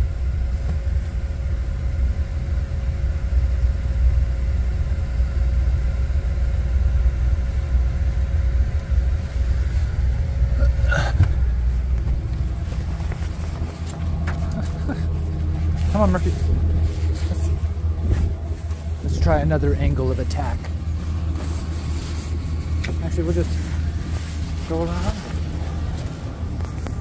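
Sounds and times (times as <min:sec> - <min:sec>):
faint steady hum: 0:00.0 - 0:27.0
low rumble: 0:00.0 - 0:27.0.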